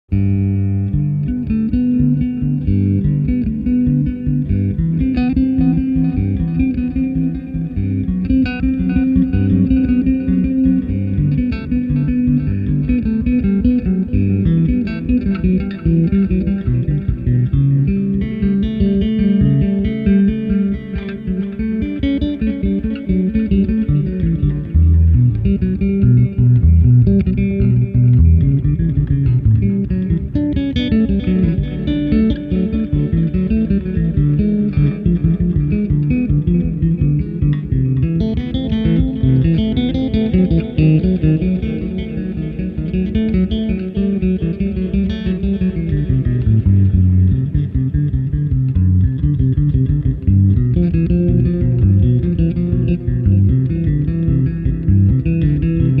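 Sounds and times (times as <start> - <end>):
electric bass with delay echoes: 0.1 - 56.0.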